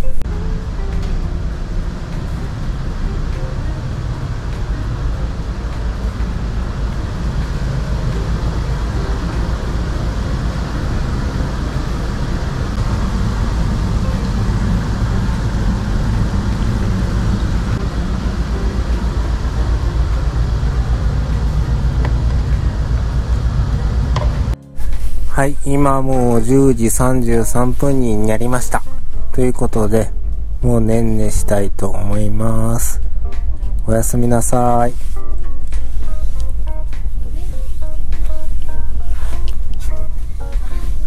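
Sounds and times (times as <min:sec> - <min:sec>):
low rumble with hiss: 0:00.0 - 0:41.0
ship machinery humming: 0:00.0 - 0:41.0.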